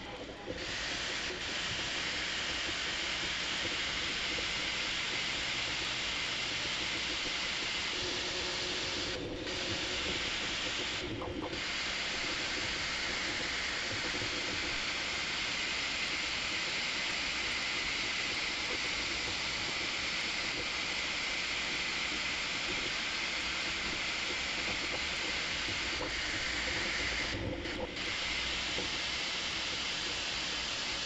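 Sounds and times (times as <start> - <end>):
printer motors and fans whirring: 0.0 - 31.0.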